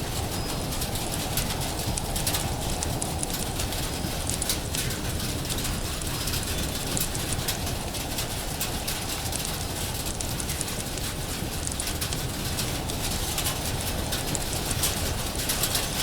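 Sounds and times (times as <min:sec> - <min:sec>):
rain hissing: 0:00.0 - 0:16.0
wood fire crackling: 0:00.0 - 0:16.0.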